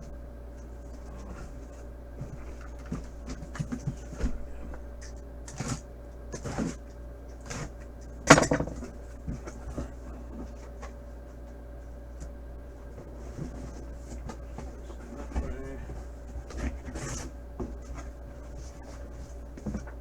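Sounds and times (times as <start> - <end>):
cardboard and packing rustling: 0.0 - 20.0.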